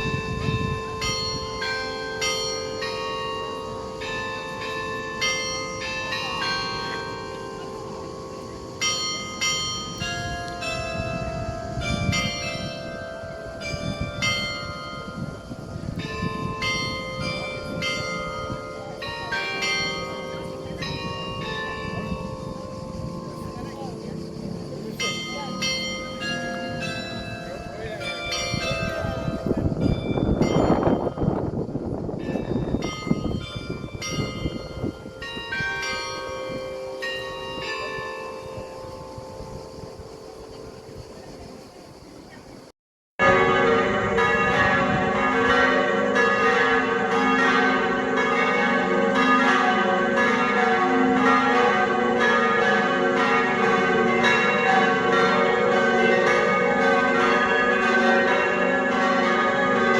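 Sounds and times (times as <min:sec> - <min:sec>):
church bells ringing: 0:00.0 - 0:41.8, 0:43.2 - 0:59.9.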